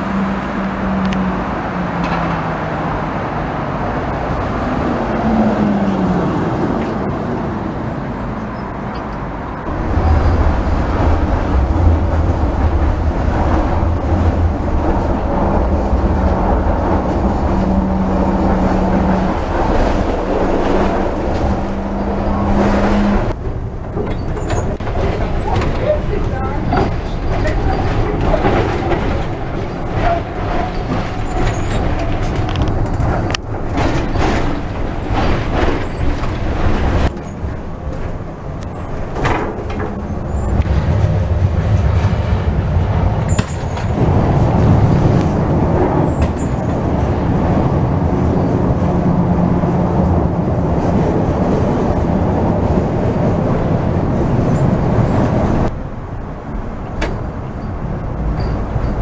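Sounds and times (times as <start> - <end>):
clacks over rail joints: 0.0 - 2.9, 5.1 - 59.0
tram wheels rumbling on rails: 0.0 - 59.0.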